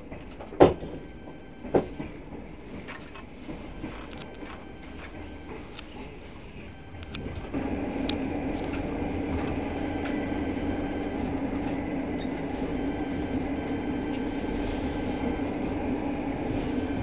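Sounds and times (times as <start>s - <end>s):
constant hum: 0.0s - 17.0s
train wheels rolling on rails: 0.0s - 17.0s.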